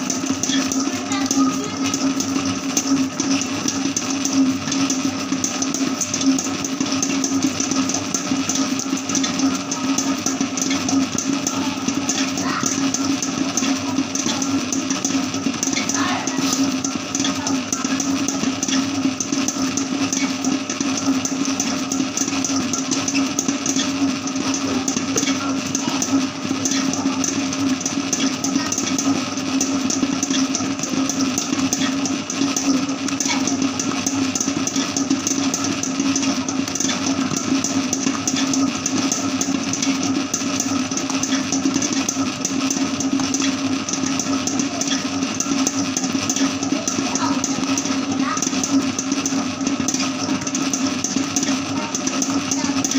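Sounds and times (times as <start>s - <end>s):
electric dough mixer running: 0.0s - 52.9s.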